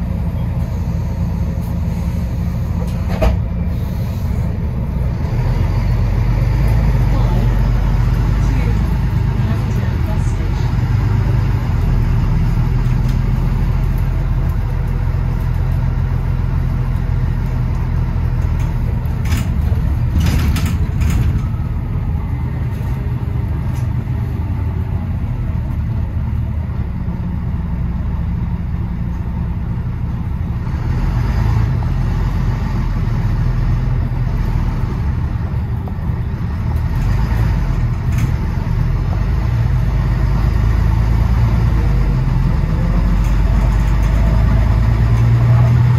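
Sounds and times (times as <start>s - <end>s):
bus engine droning: 0.0s - 45.9s.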